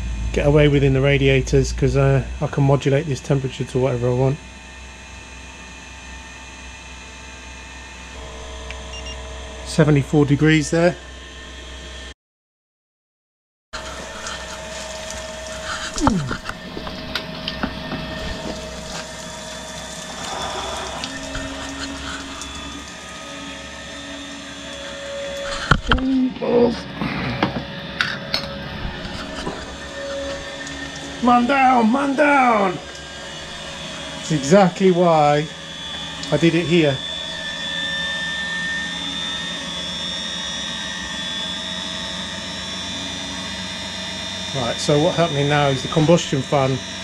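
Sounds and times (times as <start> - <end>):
fan whining: 0.0 - 11.8, 13.8 - 47.0
heater burner rushing noise: 0.0 - 12.1, 13.8 - 47.0.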